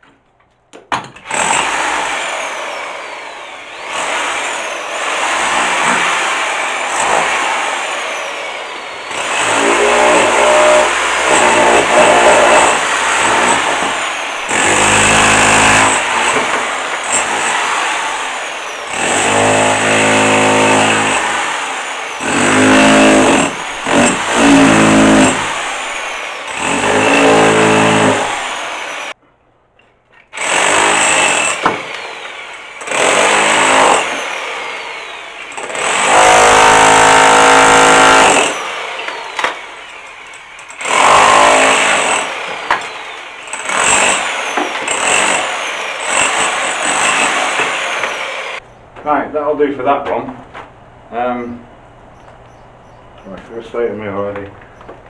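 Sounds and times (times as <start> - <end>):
electric hammer chiselling plaster: 1.1 - 29.2, 30.4 - 48.6.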